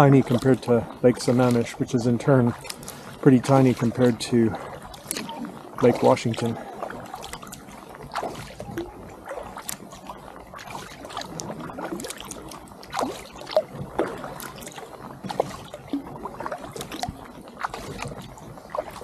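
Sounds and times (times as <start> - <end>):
paddle strokes in water: 0.0 - 19.0
small splashes and drips: 0.0 - 19.0.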